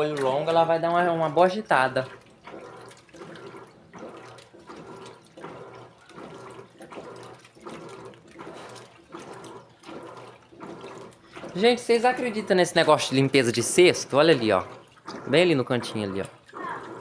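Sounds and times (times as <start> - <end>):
washing machine water sloshing: 0.0 - 17.0.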